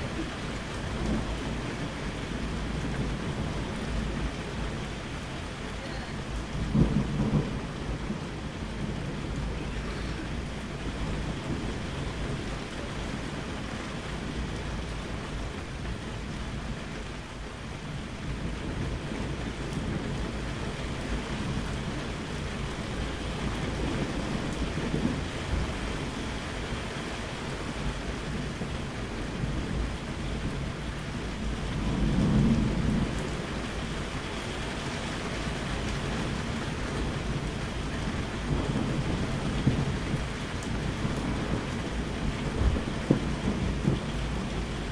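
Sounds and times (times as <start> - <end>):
low rolling thunder: 0.0 - 44.9
steady rain: 0.0 - 44.9.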